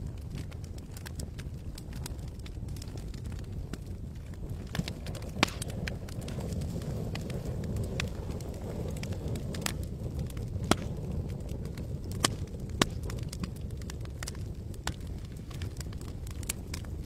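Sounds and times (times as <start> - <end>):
campfire burning low rumble: 0.0 - 17.0
wood crackling and popping: 0.0 - 17.0.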